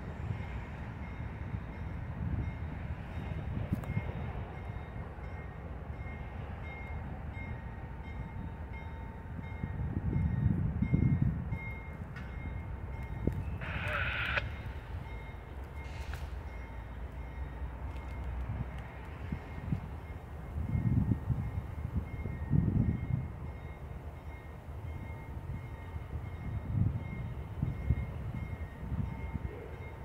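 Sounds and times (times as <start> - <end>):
train rumble: 0.0 - 30.0.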